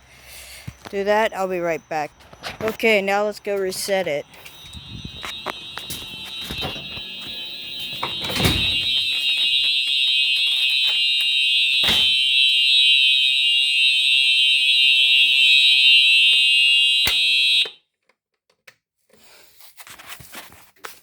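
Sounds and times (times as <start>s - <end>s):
fire alarm horn tone: 0.9s - 17.8s.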